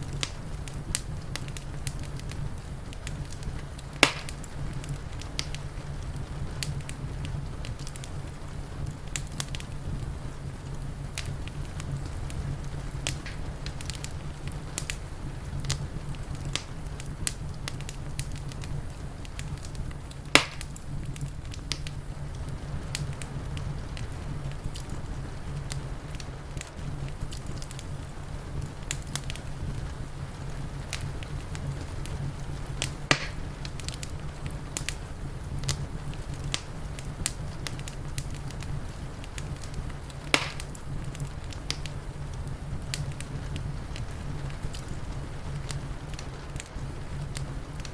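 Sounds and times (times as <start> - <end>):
fire low rumble: 0.0 - 47.9
wood fire crackling and popping: 0.0 - 47.9.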